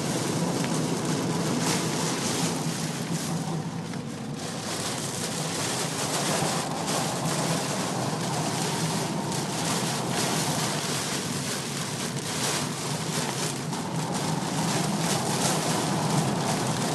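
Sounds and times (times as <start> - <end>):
heavy rain on car roof: 0.0 - 16.9
low hum of car: 0.0 - 16.9.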